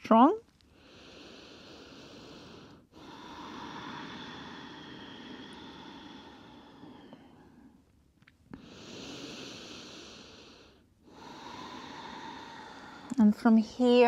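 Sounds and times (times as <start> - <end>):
person breathing slowly: 0.7 - 13.3.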